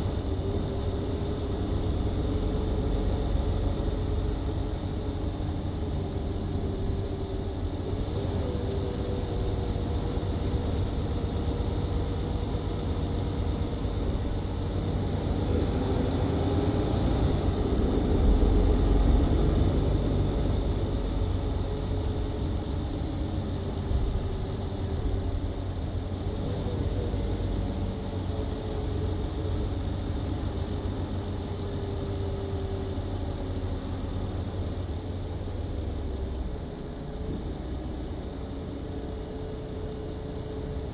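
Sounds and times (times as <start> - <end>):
bus engine and drivetrain: 0.0 - 40.9.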